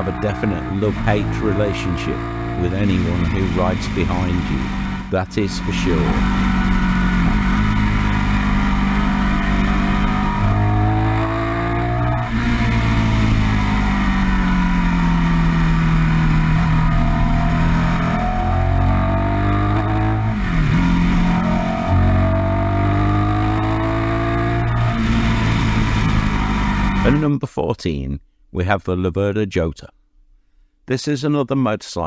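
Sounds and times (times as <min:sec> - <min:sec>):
motorcycle engine accelerating: 0:00.0 - 0:27.2.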